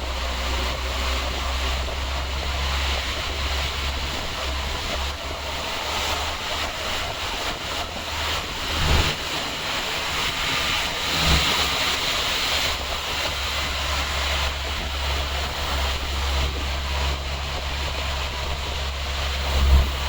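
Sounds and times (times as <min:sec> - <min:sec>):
vehicles moving through water: 0:00.0 - 0:20.0
wind rumble on microphone: 0:00.0 - 0:20.0.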